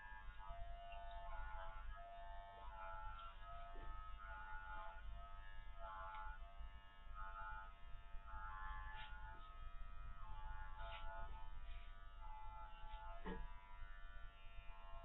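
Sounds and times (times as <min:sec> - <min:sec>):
electric clippers buzzing: 0:00.0 - 0:15.0.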